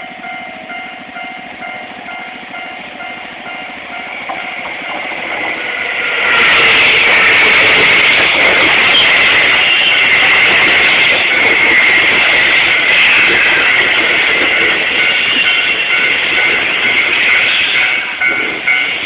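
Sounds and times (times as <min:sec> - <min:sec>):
railroad crossing bell ringing: 0:00.0 - 0:19.0
train passing: 0:00.0 - 0:19.0.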